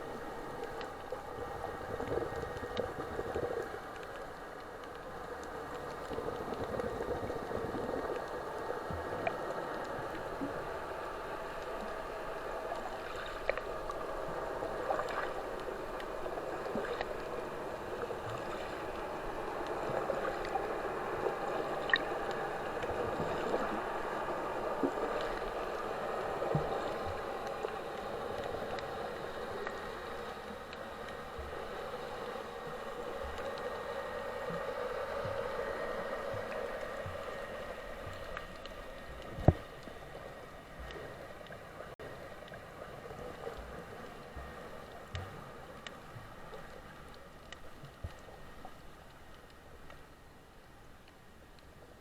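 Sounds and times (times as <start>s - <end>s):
steady hum: 0.0s - 50.2s
faint clicks: 0.0s - 52.0s
water gurgling and sloshing: 0.0s - 52.0s.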